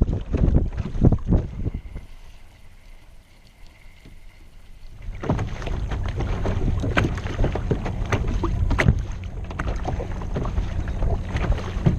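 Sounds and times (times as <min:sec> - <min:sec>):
water splashing against a kayak: 0:00.0 - 0:11.9
wind rumbling on microphone: 0:00.0 - 0:11.9.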